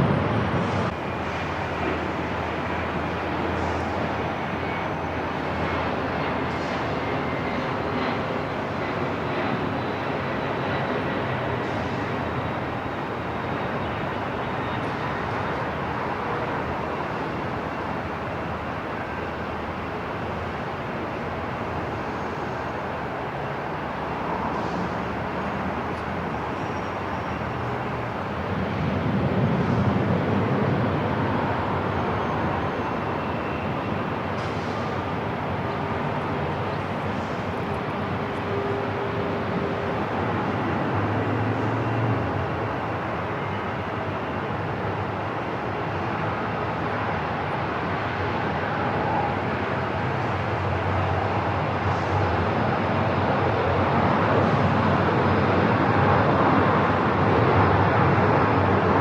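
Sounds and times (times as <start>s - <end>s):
airport terminal background hum: 0.0s - 59.0s.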